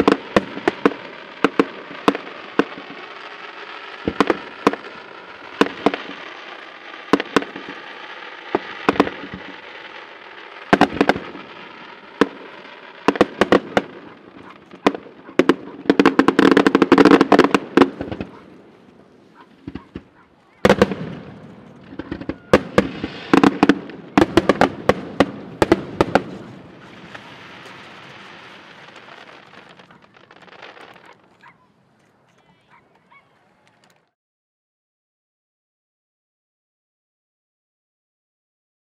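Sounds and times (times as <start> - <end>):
fireworks bangs: 0.0 - 31.6
fireworks crackling: 0.0 - 34.2.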